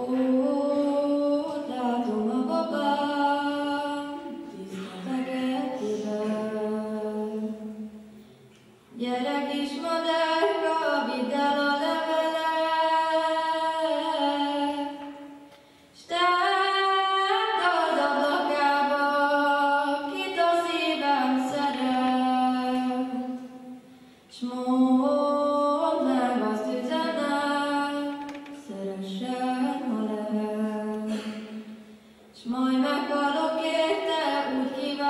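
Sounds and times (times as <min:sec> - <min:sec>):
woman singing unaccompanied folk song: 0:00.0 - 0:08.1, 0:08.9 - 0:15.4, 0:16.0 - 0:35.0.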